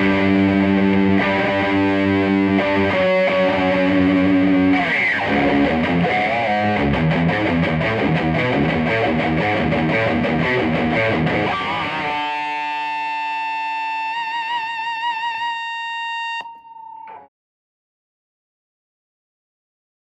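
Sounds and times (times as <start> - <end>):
distorted electric guitar: 0.0 - 17.3.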